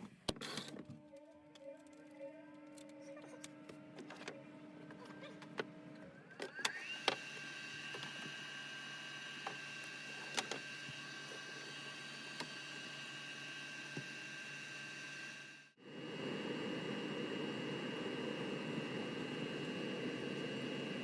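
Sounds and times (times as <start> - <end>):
furnace motor whine: 0.3 - 21.0.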